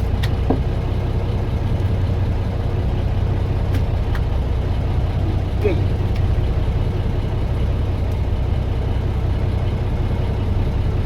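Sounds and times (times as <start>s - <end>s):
boat engine running low: 0.0s - 11.0s.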